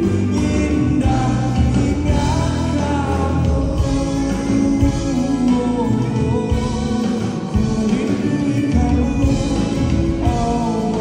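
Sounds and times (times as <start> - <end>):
acoustic guitar: 0.0 - 11.0
bass guitar: 0.0 - 11.0
drum kit: 0.0 - 11.0
keyboard: 0.0 - 11.0
person singing: 0.0 - 11.0.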